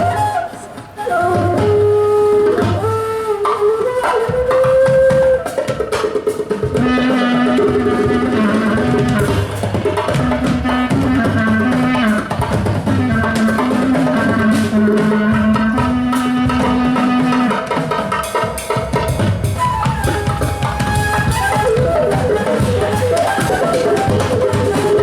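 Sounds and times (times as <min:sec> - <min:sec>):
drums and percussion: 0:00.0 - 0:25.0
live band music: 0:00.0 - 0:25.0.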